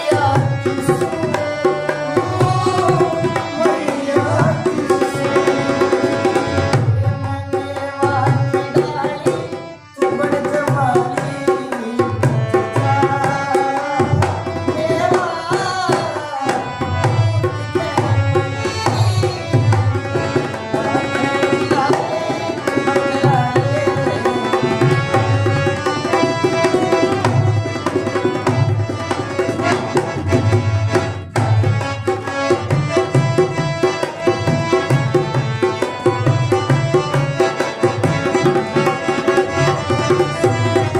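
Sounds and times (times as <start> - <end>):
hand drum rhythm: 0.0 - 40.9.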